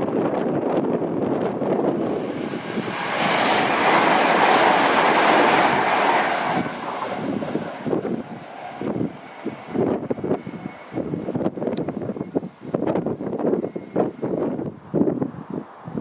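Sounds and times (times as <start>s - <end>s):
high-speed train passing: 0.0s - 16.0s
wind buffeting microphone: 0.0s - 16.0s.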